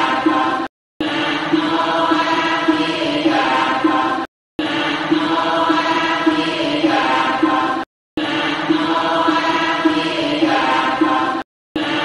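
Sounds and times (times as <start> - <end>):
devotional chanting voices: 0.0 - 12.0.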